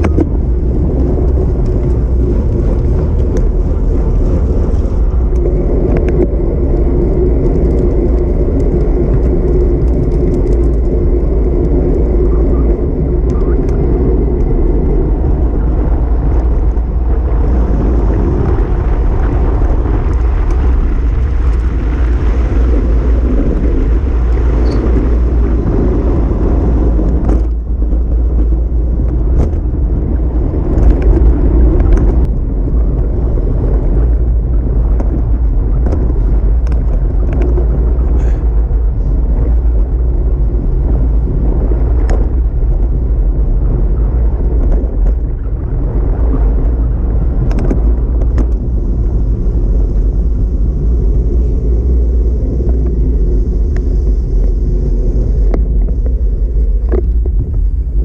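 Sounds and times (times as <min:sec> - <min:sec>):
bicycle tyre and road noise: 0:00.0 - 0:58.0
wind buffeting microphone: 0:00.0 - 0:58.0.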